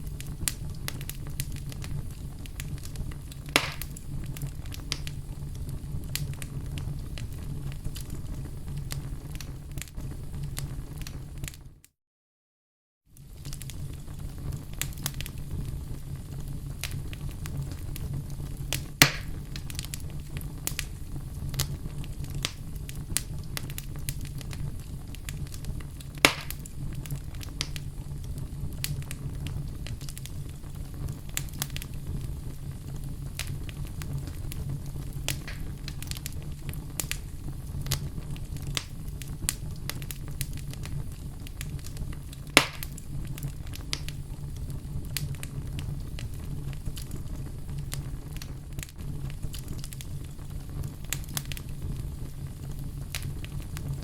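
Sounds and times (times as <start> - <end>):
fire popping: 0.0 - 11.8, 13.2 - 54.0
fire crackling in a fireplace: 0.0 - 11.9, 13.0 - 54.0.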